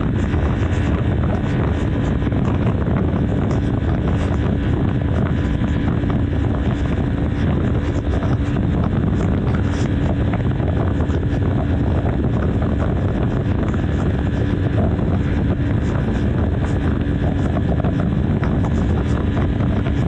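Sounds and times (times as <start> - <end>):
motorcycle engine cruising: 0.0 - 20.0
wind rushing over microphone: 0.0 - 20.0.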